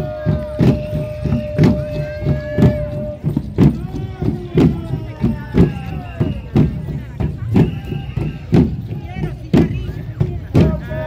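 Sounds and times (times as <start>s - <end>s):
parade drums beating a march: 0.0s - 11.0s.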